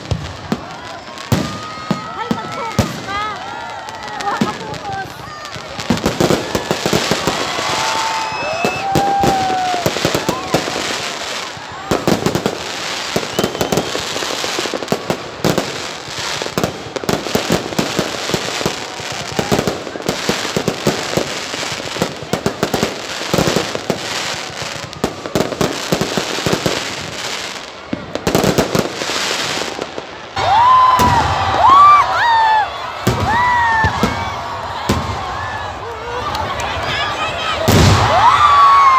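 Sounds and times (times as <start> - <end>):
crowd shouting: 0.0 - 38.9
fireworks banging and crackling: 0.0 - 38.9.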